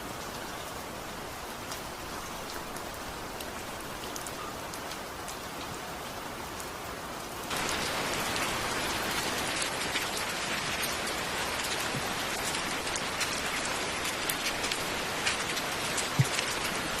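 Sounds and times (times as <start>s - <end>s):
raindrops ticking on a surface: 0.0s - 17.0s
steady rain falling: 0.0s - 17.0s.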